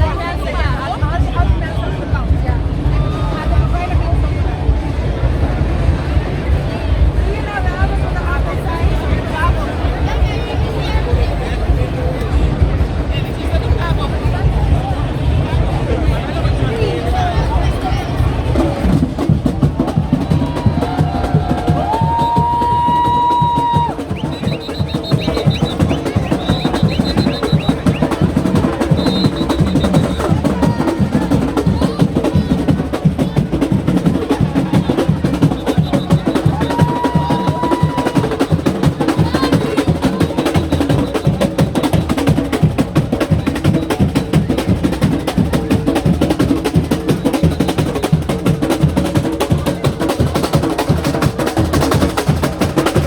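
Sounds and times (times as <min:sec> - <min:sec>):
percussion band drumming: 0:00.0 - 0:53.0.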